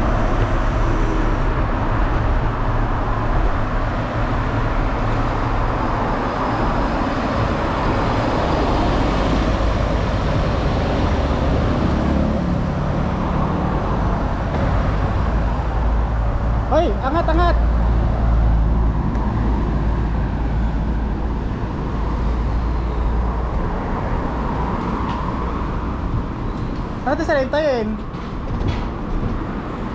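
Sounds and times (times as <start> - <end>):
road traffic rumble: 0.0 - 29.9.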